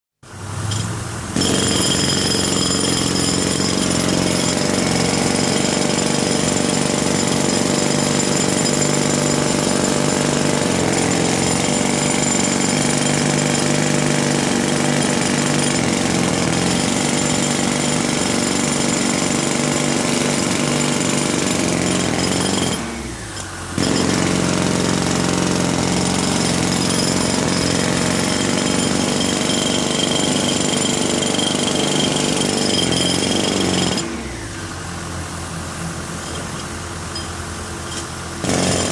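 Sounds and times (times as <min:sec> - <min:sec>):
jackhammer hammering: 0:00.7 - 0:34.7, 0:36.2 - 0:38.9.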